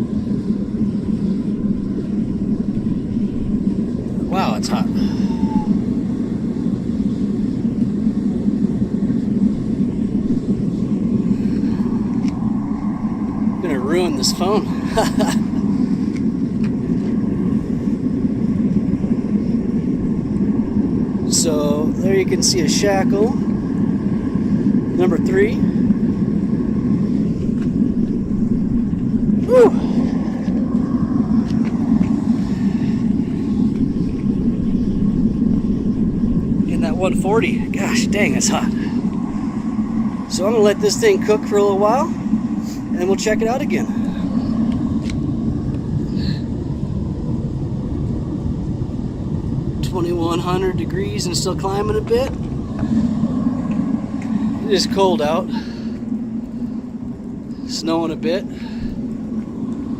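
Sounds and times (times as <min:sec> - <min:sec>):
furnace burner rushing: 0:00.0 - 0:59.9.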